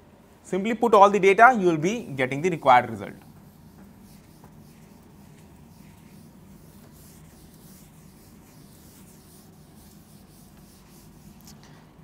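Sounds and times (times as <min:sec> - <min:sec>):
duster rubbing a chalkboard: 0:01.7 - 0:11.6.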